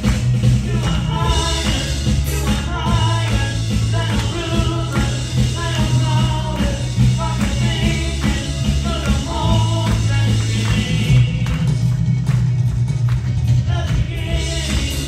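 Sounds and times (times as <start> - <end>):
drum kit beat: 0.0 - 15.0
electric bass line: 0.0 - 15.0
man singing lead: 0.4 - 11.9, 13.6 - 15.0.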